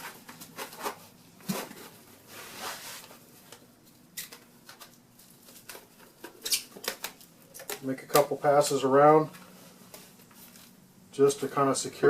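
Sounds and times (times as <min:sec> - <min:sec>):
plastic wrap rustling and crinkling: 0:00.0 - 0:10.8.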